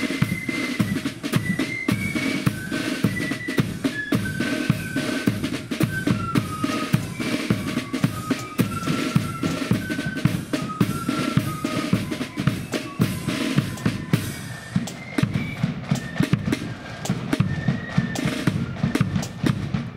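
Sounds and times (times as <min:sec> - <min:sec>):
faint flutes: 0:00.0 - 0:19.9
snare drum rolls: 0:00.0 - 0:19.9.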